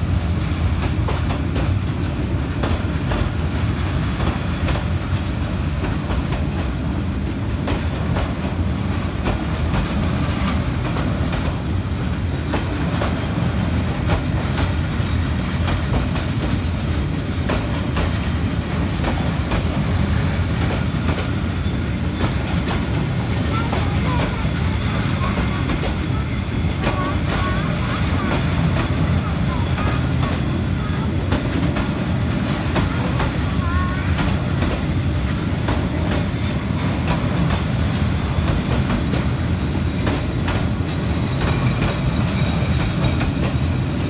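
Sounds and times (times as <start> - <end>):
train coaches rolling past: 0.0 - 44.0.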